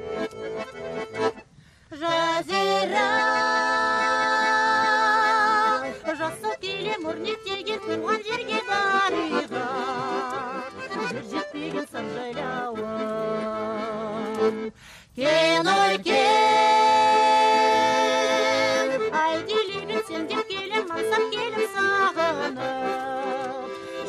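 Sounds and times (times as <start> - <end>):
button accordion: 0.0 - 24.0
woman singing folk song: 1.9 - 24.0.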